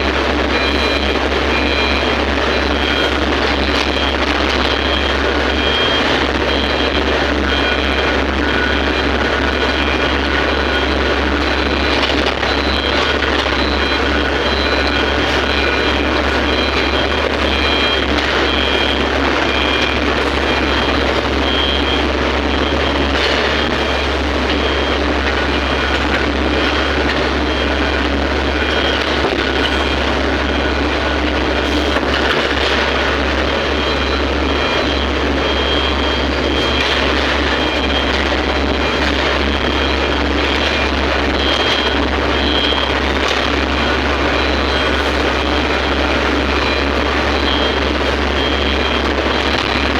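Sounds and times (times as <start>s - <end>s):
excavator engine and hydraulics: 0.0s - 49.9s.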